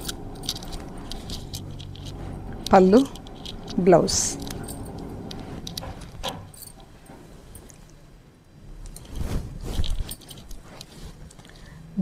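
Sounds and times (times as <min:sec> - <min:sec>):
fabric rustling and scraping: 0:00.0 - 0:07.9, 0:08.8 - 0:11.7.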